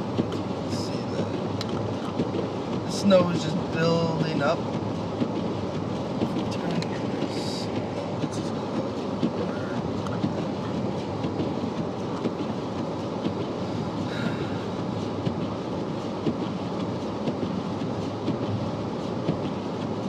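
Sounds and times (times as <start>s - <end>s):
car tyres rumbling on snowy road: 0.0s - 20.0s.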